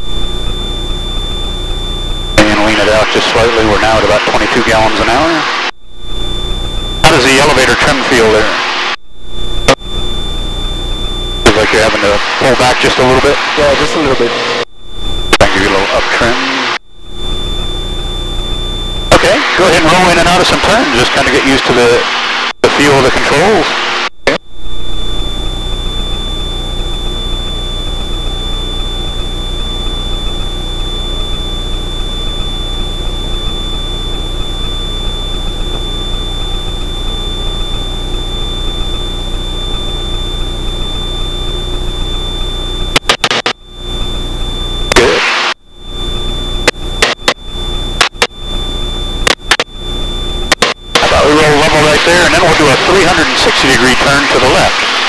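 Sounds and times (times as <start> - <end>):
thin high whine: 0.0 - 55.0.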